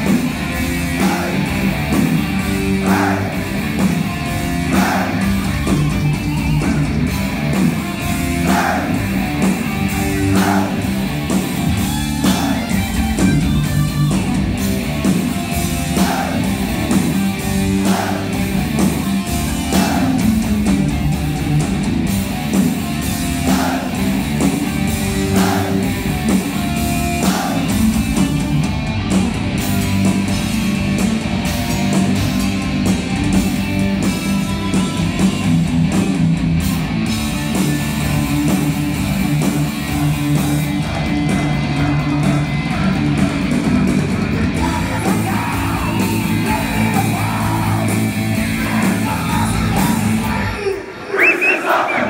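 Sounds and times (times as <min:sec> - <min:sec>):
heavy metal band playing live: 0:00.0 - 0:51.1.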